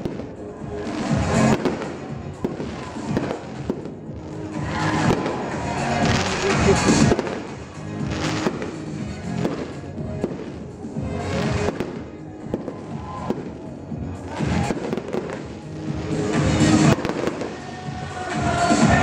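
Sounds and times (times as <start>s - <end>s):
fireworks bursting: 0.0s - 19.0s
fireworks hissing showers: 0.0s - 19.0s
music playing: 0.0s - 19.0s.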